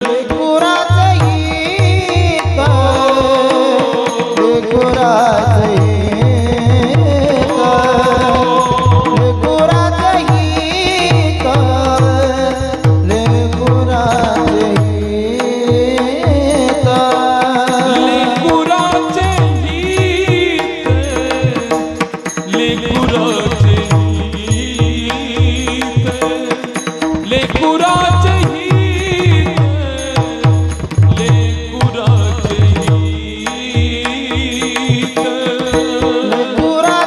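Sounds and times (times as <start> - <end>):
man singing devotional melody: 0.0 - 37.0
tabla strokes: 0.0 - 37.0.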